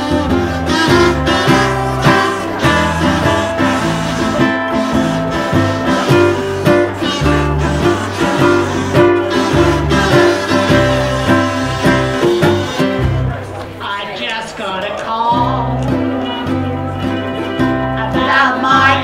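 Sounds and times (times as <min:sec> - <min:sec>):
low bass line: 0:00.0 - 0:13.6, 0:15.4 - 0:19.0
ukulele ensemble strumming: 0:00.0 - 0:19.0.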